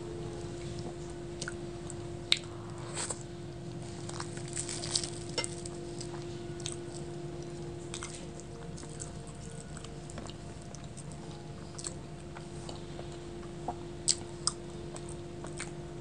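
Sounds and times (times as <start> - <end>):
chewing and wet mouth sounds: 0.6 - 15.8.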